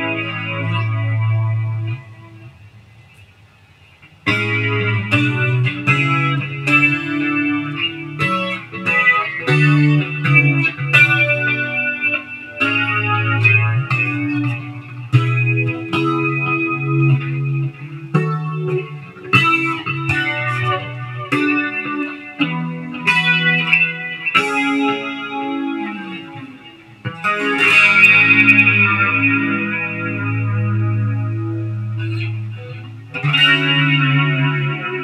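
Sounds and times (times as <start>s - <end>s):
electric guitar with flanger and delay: 0.0s - 35.0s.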